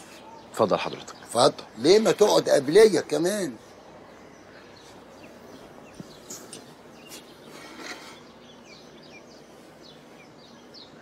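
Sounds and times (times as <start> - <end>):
birds chirping: 0.0 - 11.0
outdoor hush: 0.0 - 11.0.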